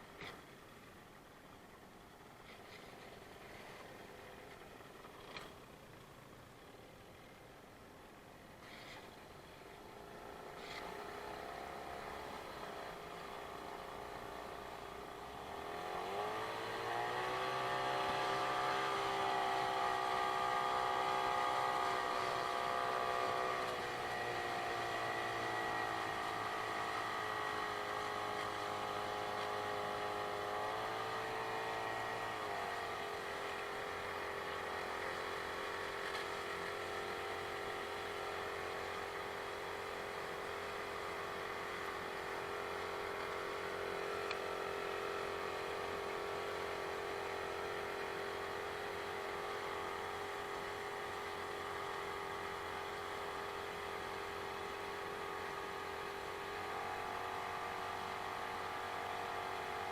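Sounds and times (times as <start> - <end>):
outboard motor running: 0.0 - 7.5, 8.2 - 59.9.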